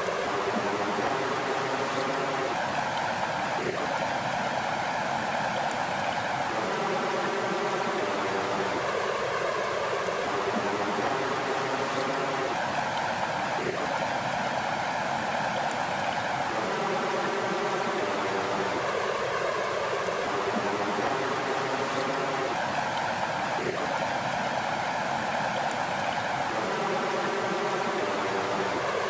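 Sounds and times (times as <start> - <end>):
water flowing and splashing: 0.0 - 29.0.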